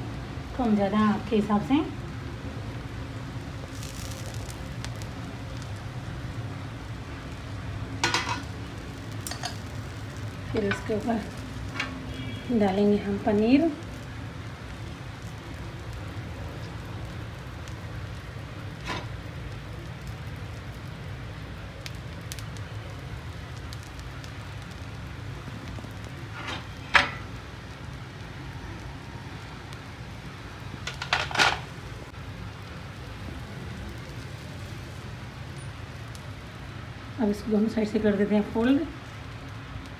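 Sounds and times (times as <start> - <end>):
food crackling on a hot pan: 0.0 - 39.9.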